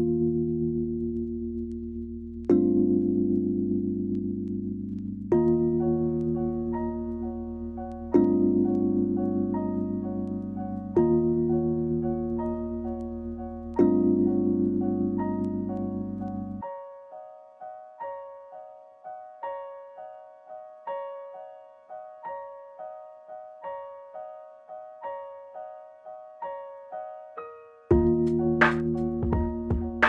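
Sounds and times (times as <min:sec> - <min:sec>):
slow gentle piano notes: 0:00.0 - 0:30.0.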